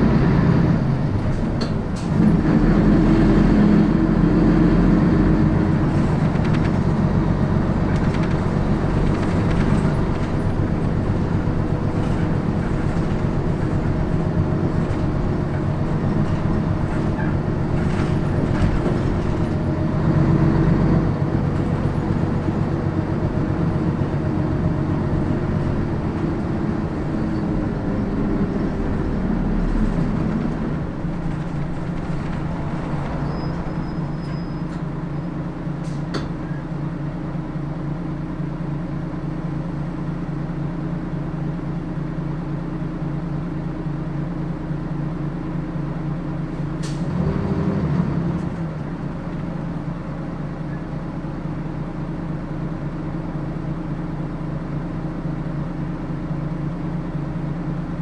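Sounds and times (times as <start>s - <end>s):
bus engine hum: 0.0s - 58.0s
road noise: 0.0s - 58.0s.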